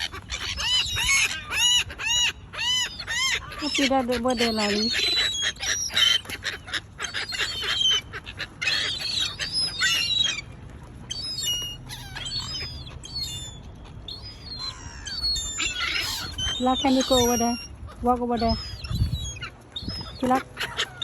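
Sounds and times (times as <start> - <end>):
gulls and waterbirds calling: 0.0 - 21.0.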